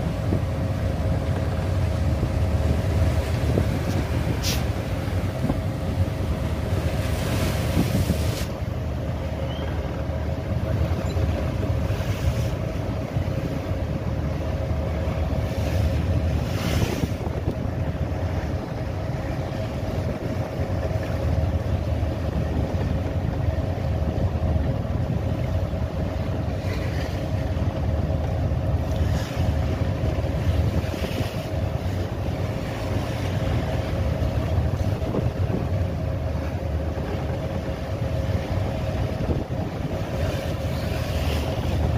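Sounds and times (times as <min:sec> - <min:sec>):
wind on microphone: 0:00.0 - 0:27.1, 0:28.8 - 0:41.9
boat engine running: 0:00.0 - 0:41.9
waves splashing against boat: 0:00.0 - 0:41.9.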